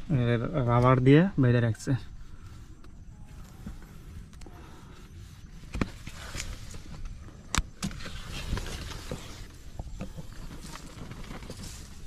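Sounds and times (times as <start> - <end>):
leaves and sticks crackling: 2.3 - 12.0.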